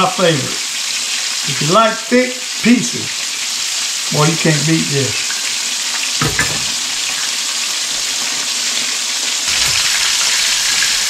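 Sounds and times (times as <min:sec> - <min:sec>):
fish sizzling in frying grease: 0:00.0 - 0:11.0.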